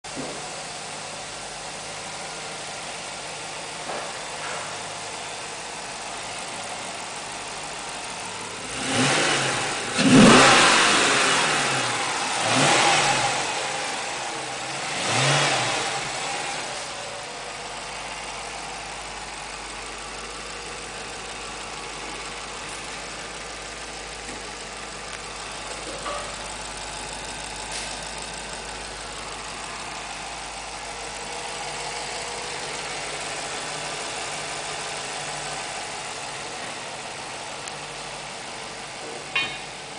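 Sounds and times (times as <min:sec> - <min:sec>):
car engine idling and revving: 0:00.1 - 0:39.9.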